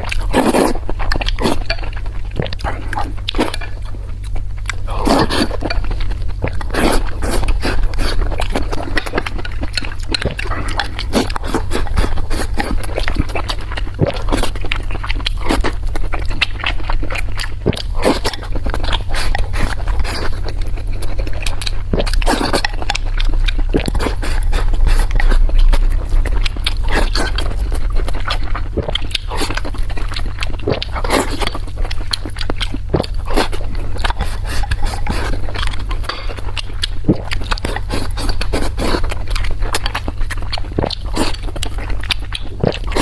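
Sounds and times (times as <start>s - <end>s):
steady low hum: 0.0s - 43.0s
wet chewing and lip-smacking: 0.0s - 43.0s.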